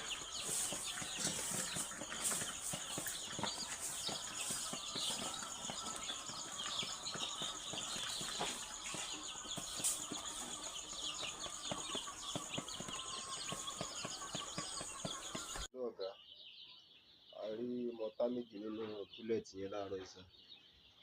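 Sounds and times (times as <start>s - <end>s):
chicks cheeping: 0.0s - 21.0s.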